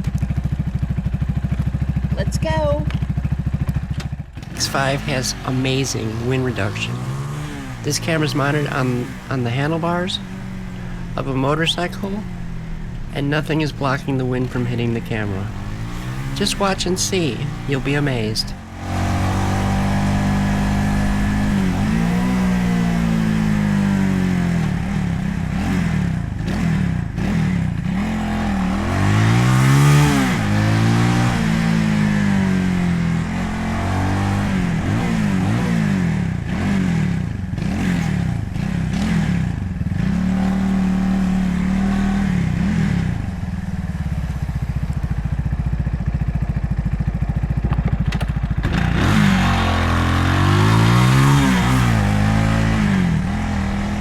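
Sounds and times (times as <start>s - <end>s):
motorcycle engine revving: 0.0s - 54.0s
road and wind noise: 0.0s - 54.0s.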